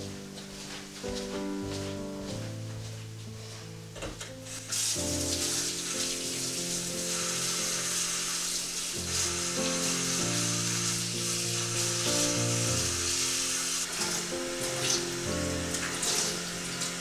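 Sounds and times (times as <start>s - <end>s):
soft background music: 0.0s - 17.0s
steady hiss: 0.0s - 17.0s.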